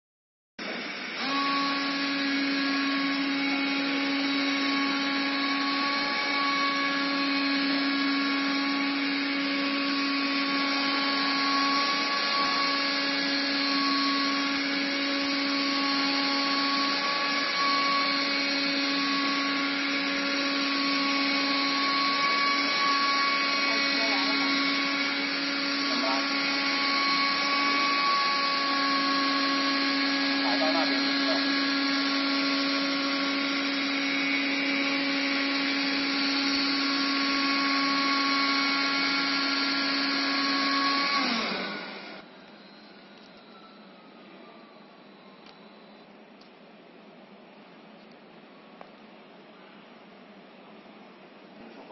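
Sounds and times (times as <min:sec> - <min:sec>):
high machine whine: 0:00.6 - 0:46.5
machine hum: 0:00.7 - 0:46.1.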